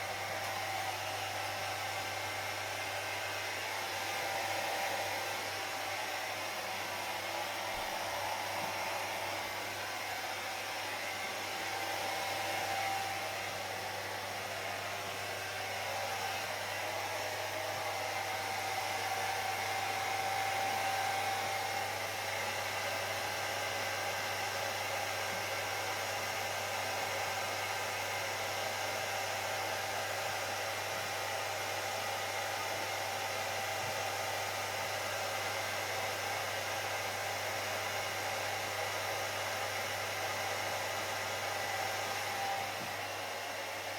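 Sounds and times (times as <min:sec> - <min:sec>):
hair dryer blowing air: 0:00.0 - 0:43.9.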